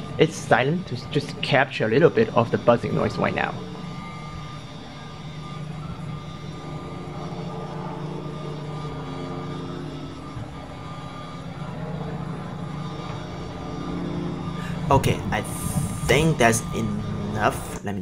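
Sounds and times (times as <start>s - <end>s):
airplane flying over: 0.0s - 18.0s
high-pitched gimbal motor hum: 0.0s - 18.0s.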